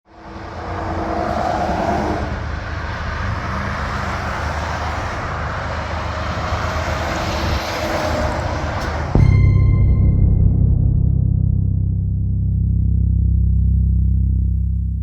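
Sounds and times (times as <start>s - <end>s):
vehicle engine rumble: 0.1s - 15.0s.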